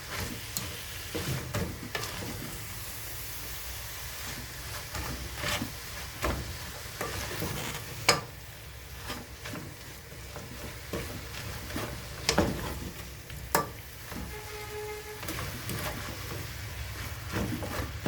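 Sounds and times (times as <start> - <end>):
utensil scraping and knocking pot: 0.0 - 2.8, 4.2 - 18.0
food sizzling in a pot: 0.0 - 18.0.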